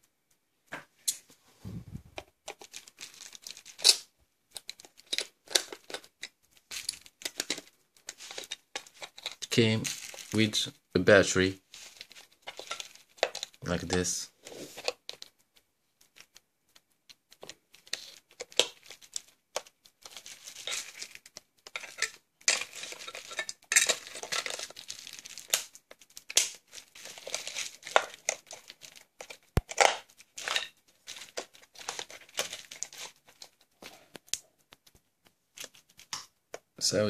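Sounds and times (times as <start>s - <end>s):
bubble wrap crinkling: 2.0s - 36.6s.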